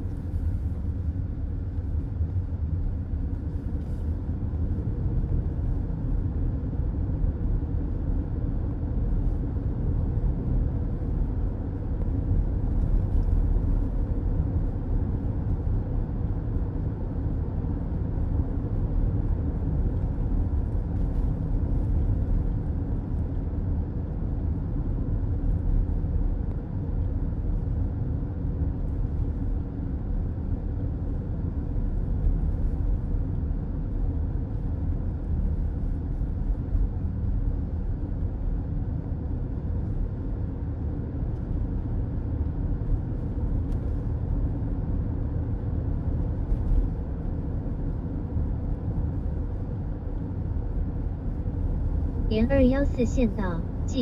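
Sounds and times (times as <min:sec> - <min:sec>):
car interior road noise: 0:00.0 - 0:54.0.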